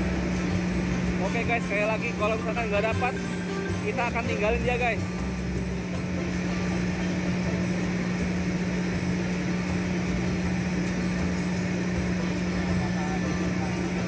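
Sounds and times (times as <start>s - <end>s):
machinery drone: 0.0s - 14.0s.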